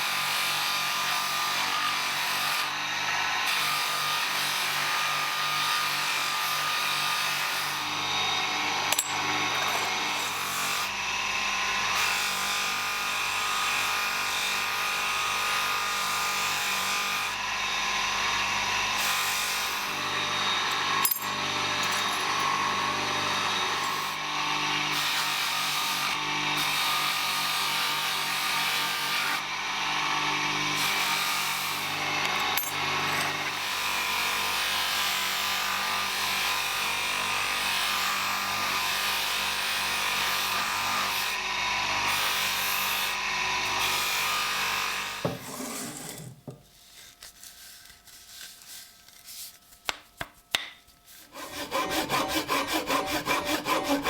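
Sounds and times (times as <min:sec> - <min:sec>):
power sander on wood: 0:00.0 - 0:47.1, 0:51.1 - 0:54.0.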